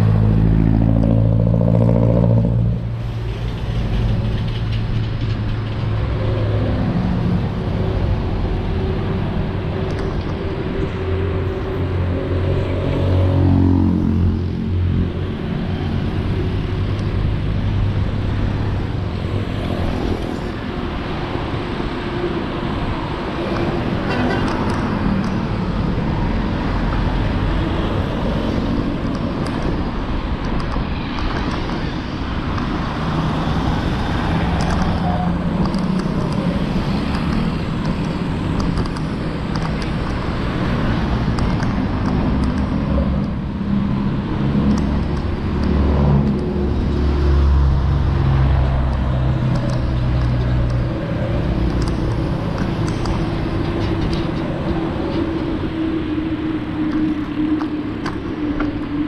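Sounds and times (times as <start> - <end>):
deep heavy engine rumble: 0.0 - 31.1, 31.8 - 59.0
road traffic rumble: 0.0 - 59.0.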